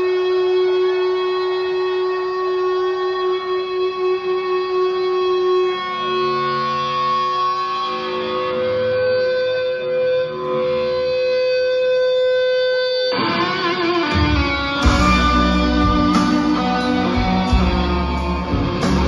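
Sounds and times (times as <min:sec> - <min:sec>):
electric guitar solo: 0:00.0 - 0:19.0
guitar chords: 0:00.0 - 0:19.0.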